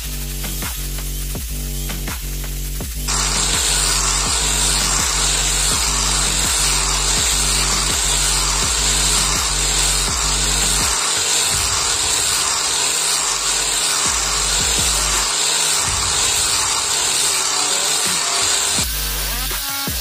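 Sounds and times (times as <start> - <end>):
background music with steady beat: 0.0 - 20.0
angle grinder sanding wood: 3.0 - 20.0.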